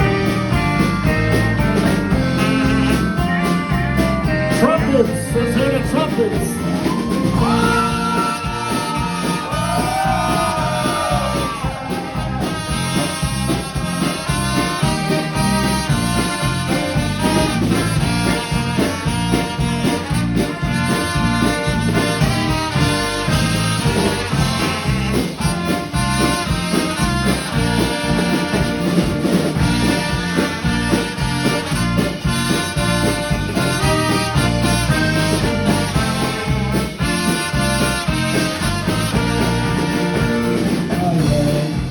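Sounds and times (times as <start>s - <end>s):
held trumpet note: 0.0s - 4.8s, 5.6s - 41.9s
live band with trumpets: 0.0s - 41.9s.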